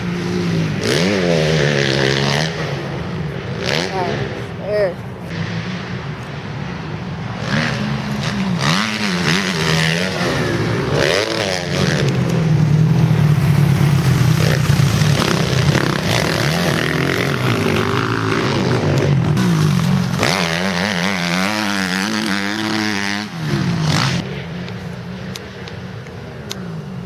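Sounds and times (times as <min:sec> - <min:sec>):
motocross bike engine revving: 0:00.0 - 0:24.6.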